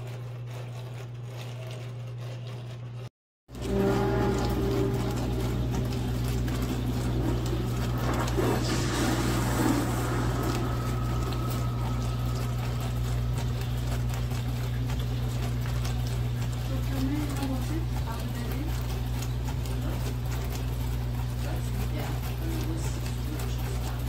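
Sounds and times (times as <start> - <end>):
dishwasher motor hum: 0.0 - 24.0
water splashing and sloshing: 3.5 - 24.0.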